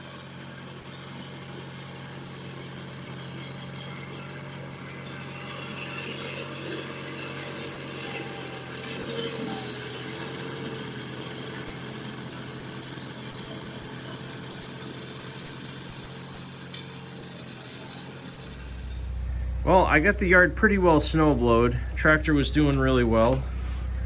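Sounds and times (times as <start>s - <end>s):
garden tractor engine running: 0.0s - 24.0s.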